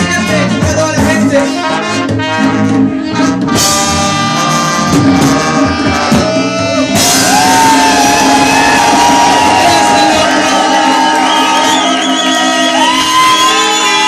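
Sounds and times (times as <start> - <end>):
reggae music over sound system: 0.0 - 14.0.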